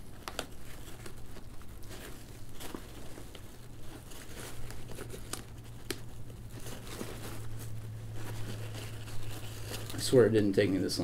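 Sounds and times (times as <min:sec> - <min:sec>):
steady low hum: 0:00.0 - 0:11.0
fabric rustling: 0:00.3 - 0:11.0.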